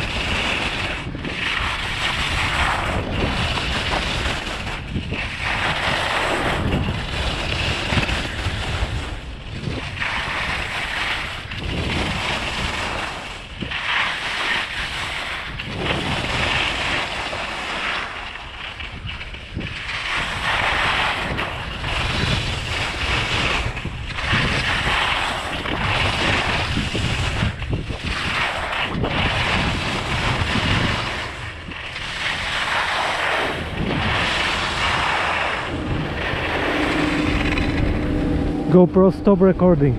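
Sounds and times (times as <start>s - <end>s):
skis scraping on snow: 0.0s - 39.8s
wind buffeting microphone: 0.0s - 39.9s.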